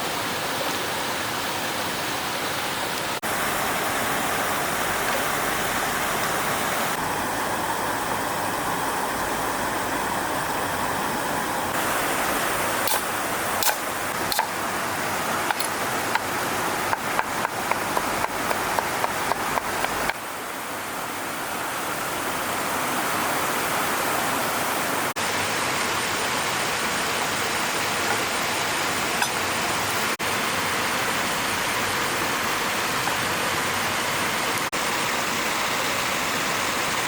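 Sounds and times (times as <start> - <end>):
flowing stream: 0.0 - 37.0.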